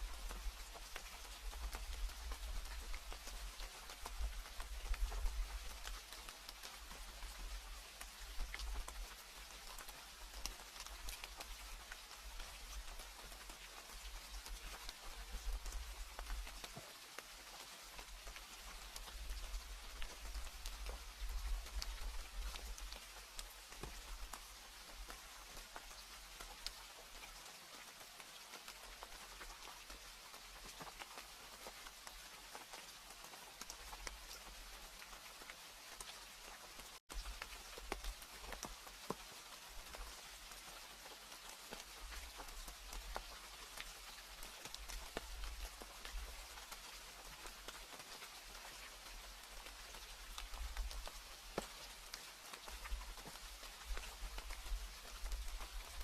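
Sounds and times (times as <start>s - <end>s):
raindrops ticking on a surface: 0.0s - 56.0s.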